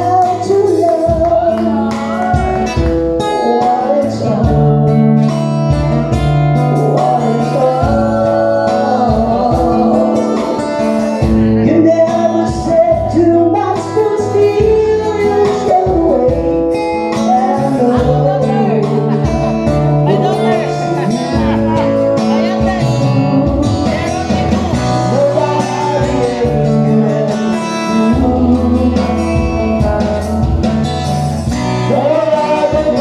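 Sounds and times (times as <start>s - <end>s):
live band playing: 0.0s - 33.0s
person singing: 0.0s - 33.0s.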